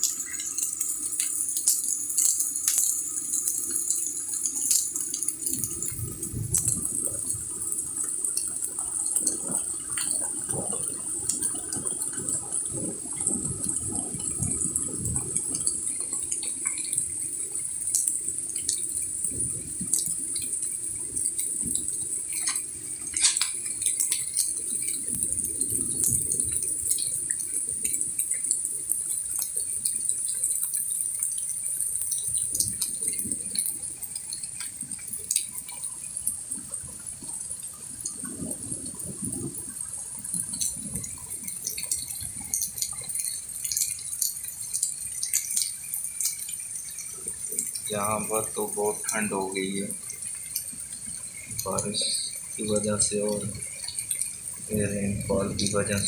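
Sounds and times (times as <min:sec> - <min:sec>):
steady rain falling: 0:00.0 - 0:56.0
water running: 0:00.0 - 0:56.0.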